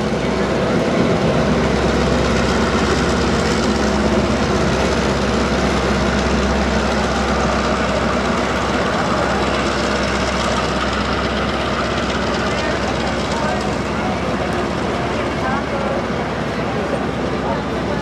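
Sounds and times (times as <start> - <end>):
diesel locomotive engine hum: 0.0 - 18.0.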